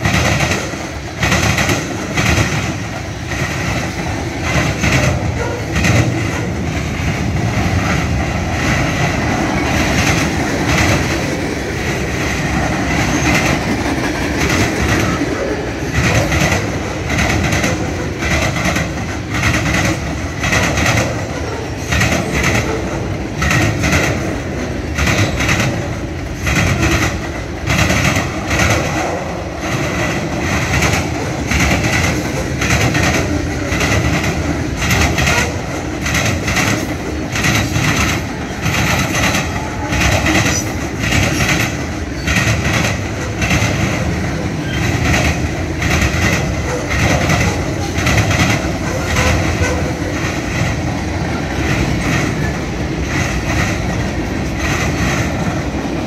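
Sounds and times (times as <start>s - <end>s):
rhythmic clickety-clack: 0.0s - 56.0s
train wheels rumbling on rail: 0.0s - 56.0s.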